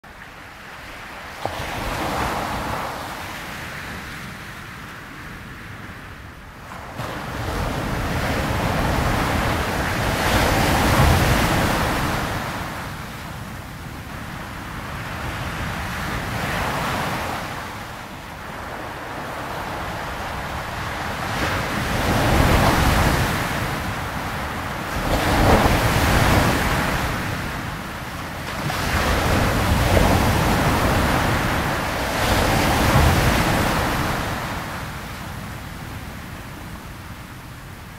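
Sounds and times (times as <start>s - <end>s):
sea waves washing in: 0.1s - 37.9s.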